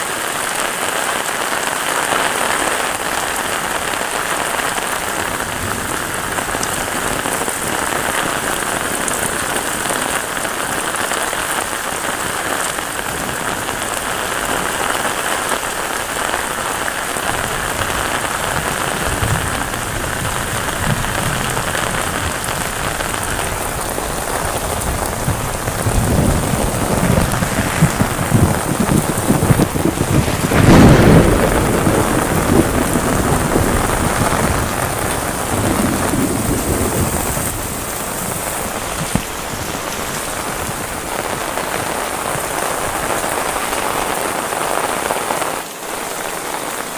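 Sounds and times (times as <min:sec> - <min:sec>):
heavy rain falling: 0:00.0 - 0:46.9
thunder rumbling: 0:02.3 - 0:44.4.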